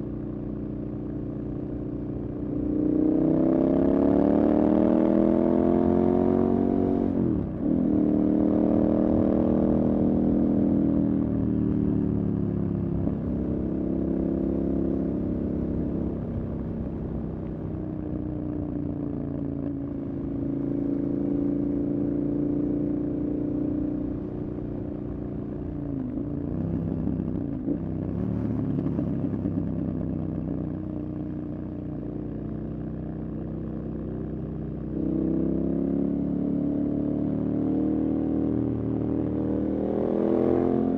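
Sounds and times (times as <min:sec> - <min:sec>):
motorcycle engine running: 0:07.1 - 0:40.9.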